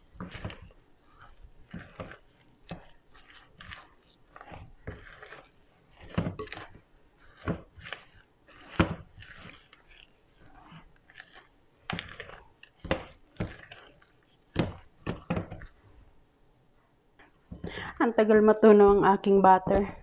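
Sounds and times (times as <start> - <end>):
dough squishing and scraping: 0.0 - 20.0.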